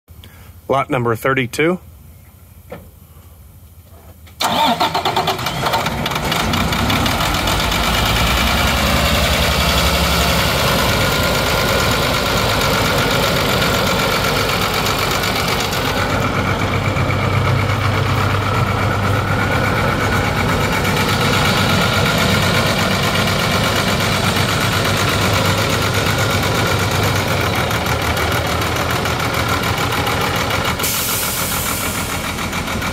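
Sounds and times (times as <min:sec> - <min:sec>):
diesel truck engine starting: 0:04.2 - 0:32.9
diesel engine idling: 0:04.4 - 0:32.9.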